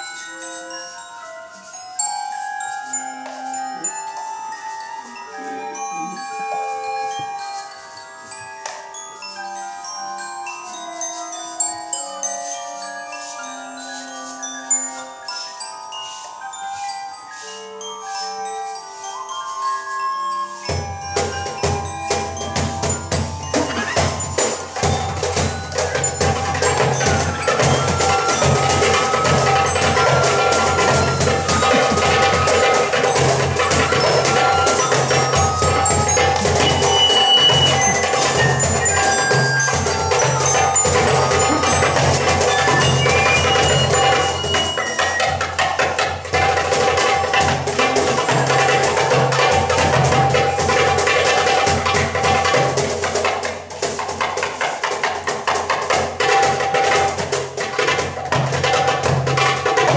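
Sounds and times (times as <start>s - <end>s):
mallet percussion notes: 0.0s - 59.9s.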